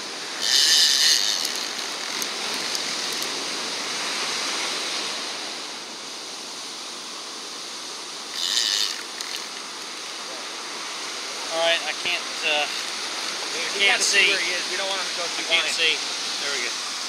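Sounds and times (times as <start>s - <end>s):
surf washing on beach: 0.0s - 17.0s.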